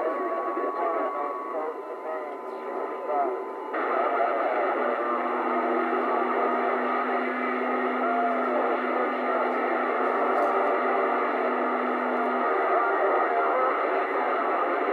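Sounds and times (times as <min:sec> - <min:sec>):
garbled radio transmissions: 0:00.0 - 0:14.9
radio static hiss: 0:00.0 - 0:14.9
steady low tone: 0:00.0 - 0:14.9.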